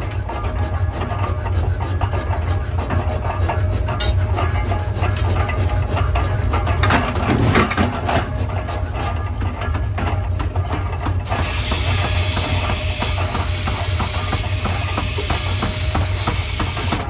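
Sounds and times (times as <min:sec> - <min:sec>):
machinery humming: 0:00.0 - 0:17.0
metal parts scraping and rattling: 0:00.0 - 0:17.0.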